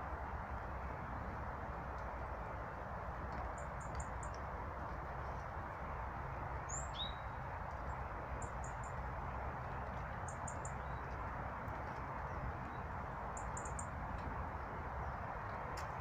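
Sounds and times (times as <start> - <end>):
songbirds chirping: 2.7 - 16.0.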